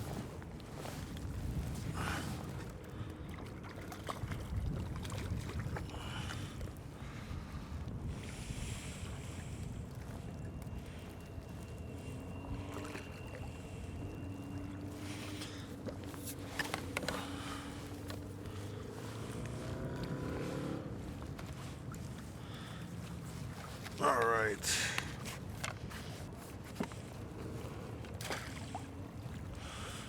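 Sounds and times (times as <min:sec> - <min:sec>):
water around kayak: 0:00.0 - 0:30.0
wind: 0:00.0 - 0:30.0.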